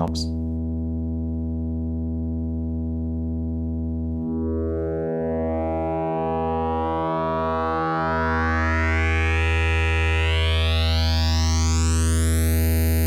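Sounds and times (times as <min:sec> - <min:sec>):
synthesizer low drone: 0:00.0 - 0:12.2.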